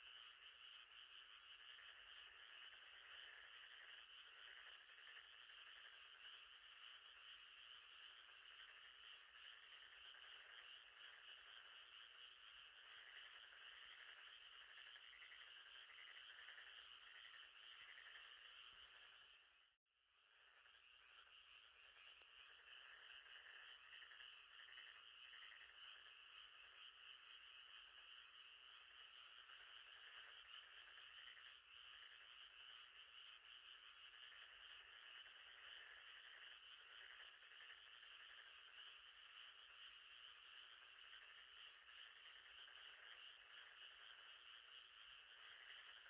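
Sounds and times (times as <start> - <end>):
frogs trilling: 0.0 - 46.0.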